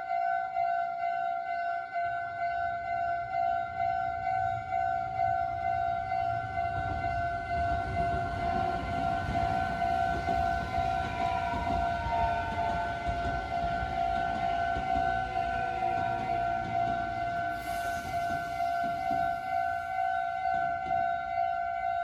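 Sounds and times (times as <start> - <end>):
level crossing warning bell: 0.0 - 22.0
train rumbling: 2.4 - 21.8.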